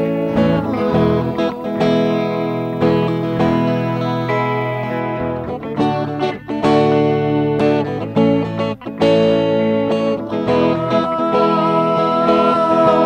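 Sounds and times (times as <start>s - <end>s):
guitar-led song: 0.0s - 13.0s.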